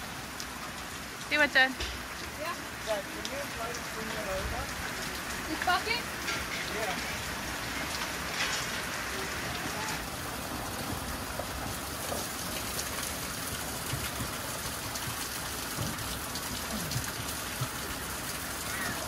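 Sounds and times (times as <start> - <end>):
raindrops ticking: 0.0 - 19.0
steady rain falling: 0.0 - 19.0.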